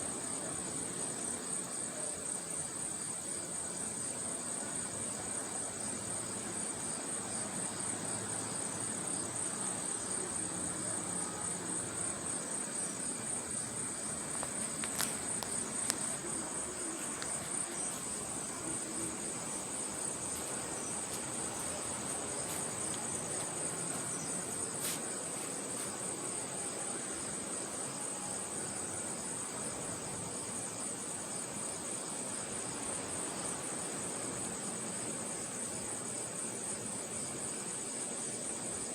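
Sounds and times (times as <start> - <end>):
night insects trilling: 0.0 - 38.9
soft even hiss: 0.0 - 38.9.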